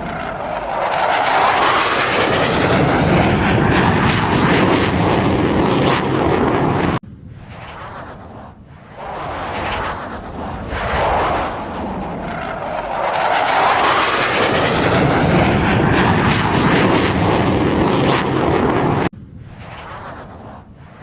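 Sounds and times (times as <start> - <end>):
aircraft engines running: 0.0 - 21.0.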